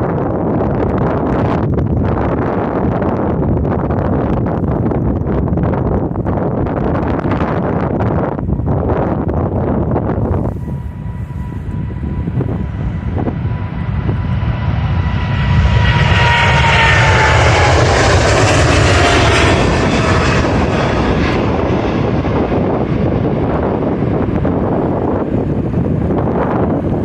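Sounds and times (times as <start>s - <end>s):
jet airliner roar: 0.0s - 27.0s
jet engine whine: 0.0s - 27.0s.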